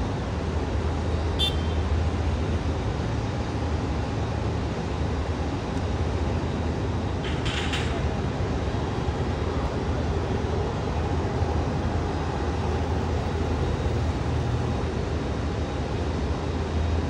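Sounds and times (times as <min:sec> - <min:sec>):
jet engines rumbling: 0:00.4 - 0:16.8.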